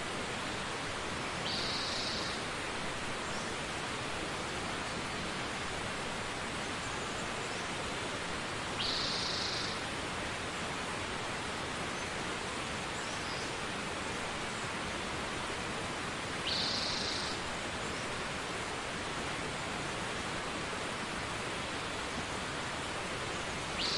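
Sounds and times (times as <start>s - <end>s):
falling water rushing: 0.0s - 23.9s.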